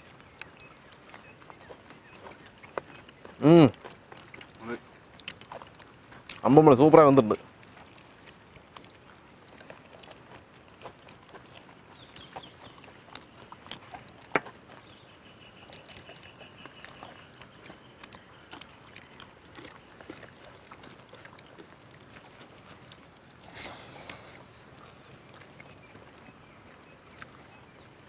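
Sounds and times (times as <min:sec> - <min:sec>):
clicks and rustles of eating: 0:00.0 - 0:28.0.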